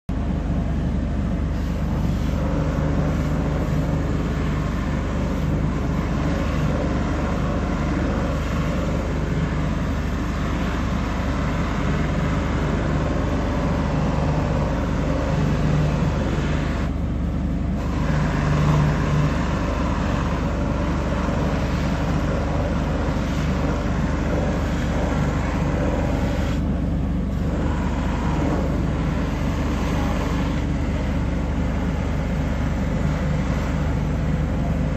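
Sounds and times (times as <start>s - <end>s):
machine motor humming: 0.1s - 34.9s.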